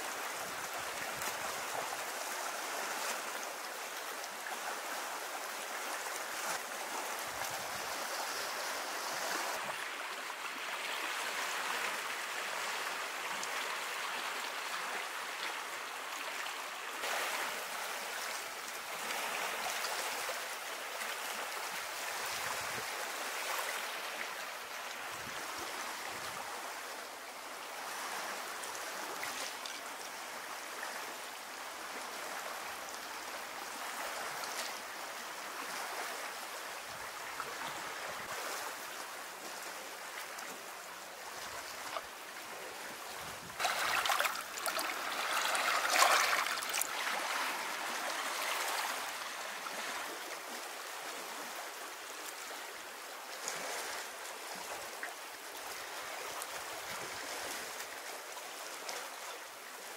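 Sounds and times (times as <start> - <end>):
rushing splashing water: 0.0 - 59.9.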